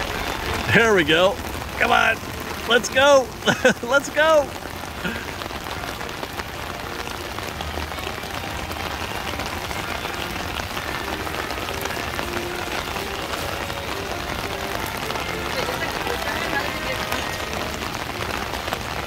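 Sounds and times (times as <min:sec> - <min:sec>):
rain on wet ground: 0:00.0 - 0:19.0.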